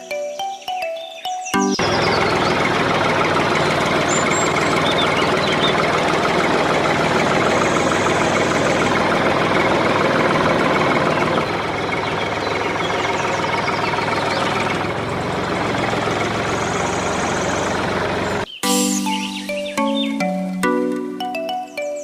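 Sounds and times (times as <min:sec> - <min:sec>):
machine engine drone: 0:01.6 - 0:19.4.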